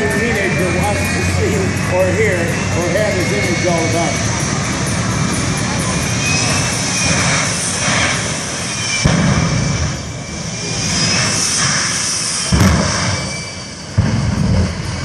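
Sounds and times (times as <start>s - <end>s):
jet engine roaring with high whine: 0.0s - 15.0s.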